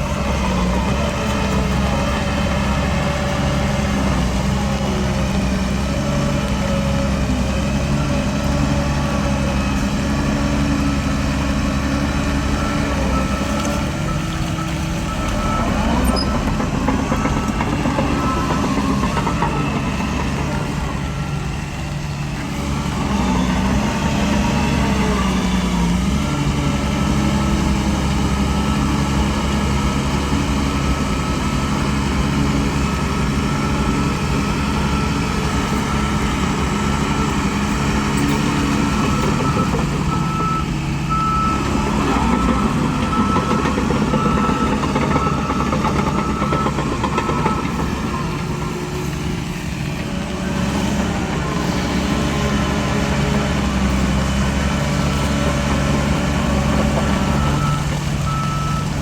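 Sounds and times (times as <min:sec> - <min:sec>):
reversing alarm beeping: 0:00.0 - 0:21.7, 0:22.3 - 0:49.3, 0:53.9 - 0:59.0
heavy diesel machinery running: 0:00.0 - 0:59.0.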